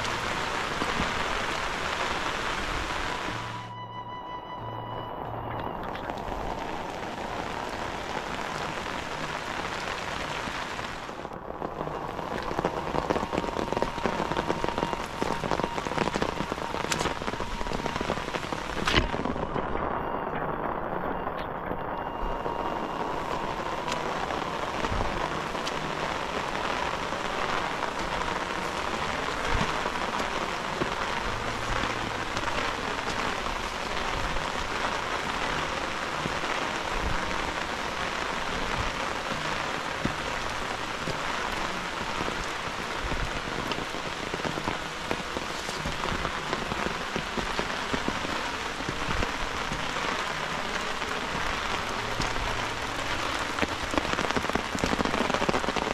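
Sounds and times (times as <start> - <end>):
heavy rain on grass and leaves: 0.0 - 55.9.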